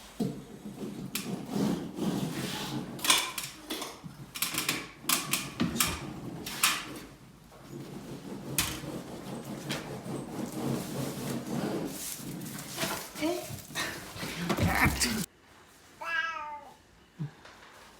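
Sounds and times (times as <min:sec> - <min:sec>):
wallpaper scraping and rustling: 0:00.0 - 0:16.0.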